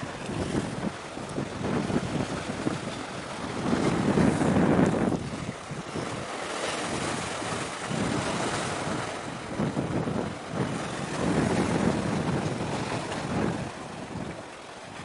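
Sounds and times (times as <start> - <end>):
sea rushing: 0.0 - 15.0
wind buffeting microphone: 0.0 - 15.0.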